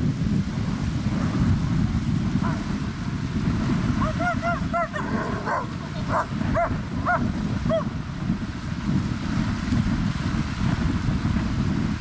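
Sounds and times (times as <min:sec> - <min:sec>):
waves lapping: 0:00.0 - 0:12.0
wind: 0:00.0 - 0:12.0.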